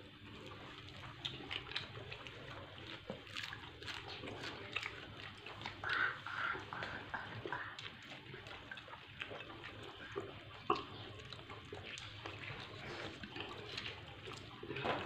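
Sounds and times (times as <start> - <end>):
chewing and lip-smacking: 0.0 - 15.0.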